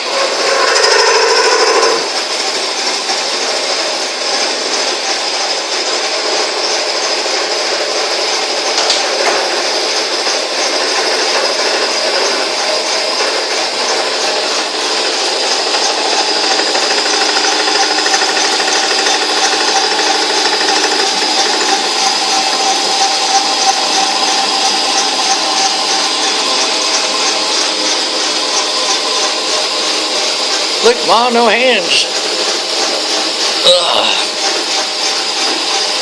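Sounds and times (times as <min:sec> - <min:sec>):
metal lathe cutting steel pipe: 0:00.0 - 0:36.0.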